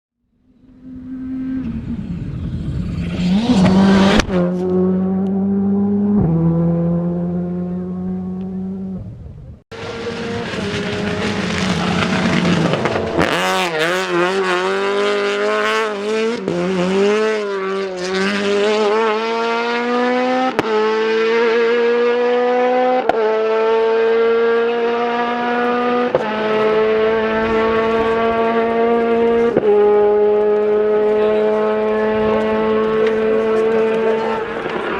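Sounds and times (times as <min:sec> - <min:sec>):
rally car engines at full throttle: 0:00.4 - 0:34.9.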